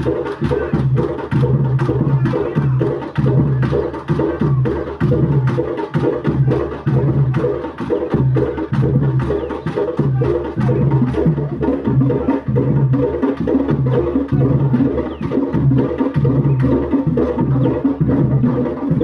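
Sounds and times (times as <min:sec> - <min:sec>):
fast drum rhythm: 0:00.0 - 0:19.0.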